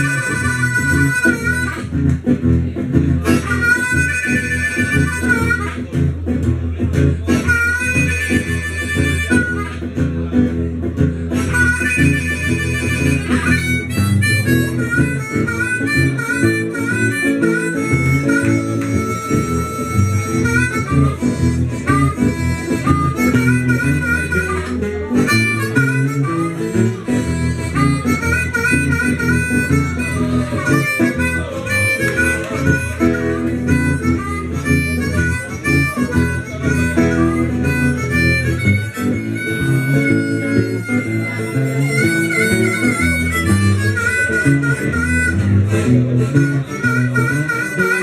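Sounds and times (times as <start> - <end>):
blues harmonica solo: 0.0 - 48.0
strummed acoustic guitar: 0.0 - 48.0.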